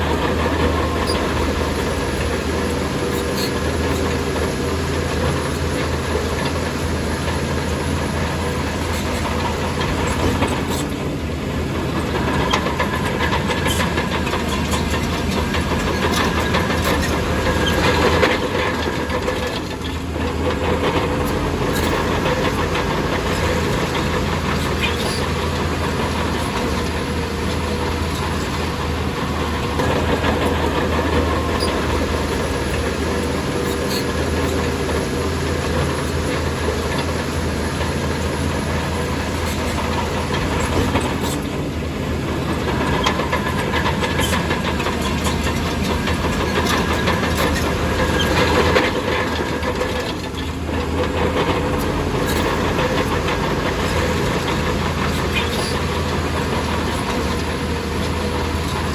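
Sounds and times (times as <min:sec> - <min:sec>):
heavy machinery diesel engine: 0:00.0 - 0:58.9.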